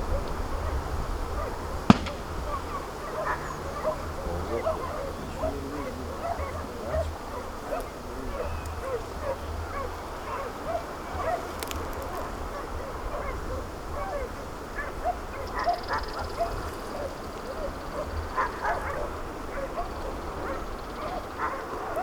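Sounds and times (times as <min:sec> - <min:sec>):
distant dogs barking and yelping: 0:00.0 - 0:22.0.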